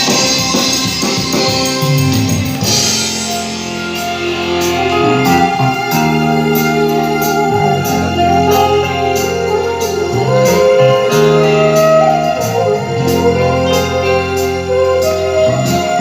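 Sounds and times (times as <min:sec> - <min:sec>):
keyboard-led music with beat: 0:00.0 - 0:16.0.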